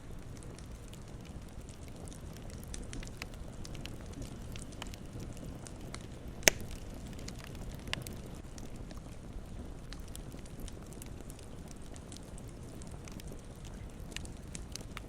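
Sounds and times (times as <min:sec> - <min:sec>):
campfire crackling: 0:00.0 - 0:15.0
fire pops and snaps: 0:00.0 - 0:15.0.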